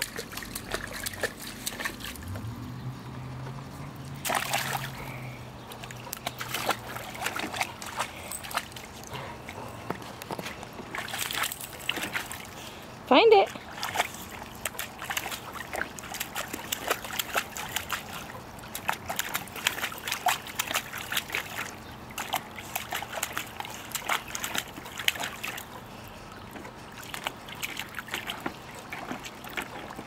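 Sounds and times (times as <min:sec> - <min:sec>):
puppy splashing water: 0:00.0 - 0:30.0.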